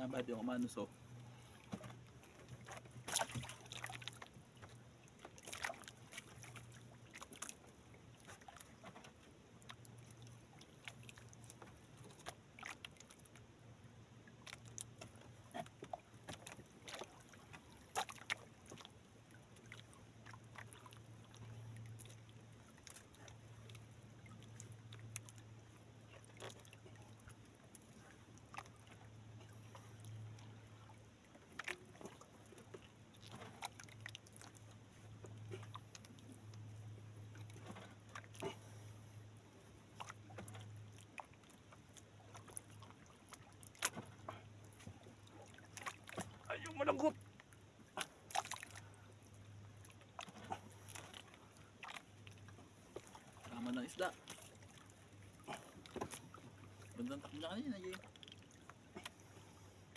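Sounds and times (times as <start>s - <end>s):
water lapping at boat hull: 0.0s - 59.9s.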